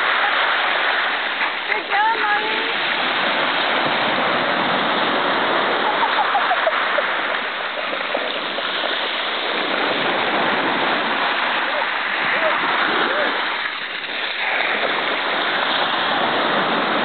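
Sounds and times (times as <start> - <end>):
waves washing over shingle: 0.0 - 17.0.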